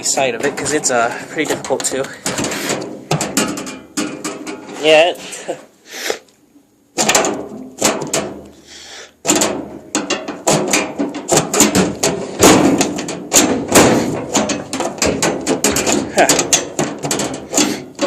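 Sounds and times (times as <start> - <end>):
clattering metal knocks and bangs: 0.0 - 5.3, 7.0 - 8.6, 9.2 - 18.0.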